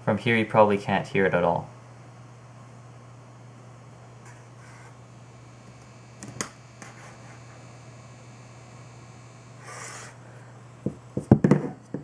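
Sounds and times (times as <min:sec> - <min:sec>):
pump humming faintly: 0:00.0 - 0:12.0.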